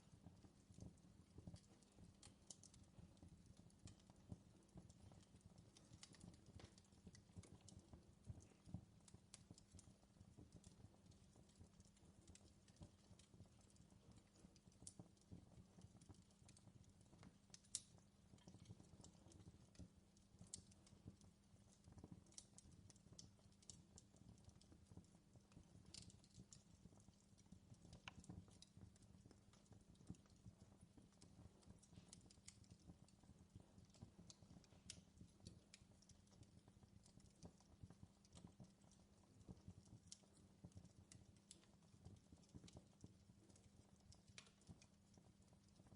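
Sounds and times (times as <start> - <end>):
low fire rumble: 0.0 - 45.9
wood fire crackling: 0.0 - 45.9.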